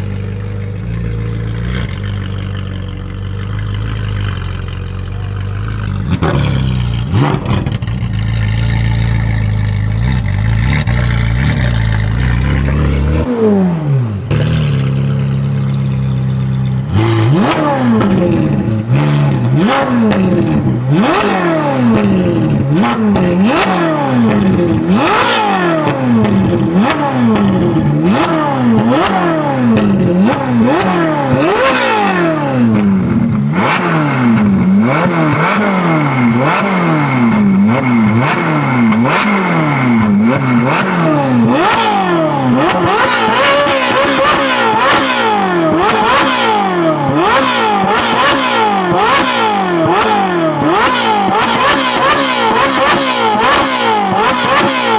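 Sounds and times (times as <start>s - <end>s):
car engine revving while stationary: 0.0s - 54.9s.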